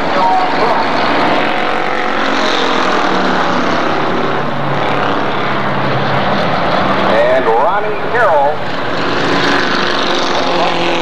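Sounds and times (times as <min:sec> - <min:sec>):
race car engines at speed: 0:00.0 - 0:11.0.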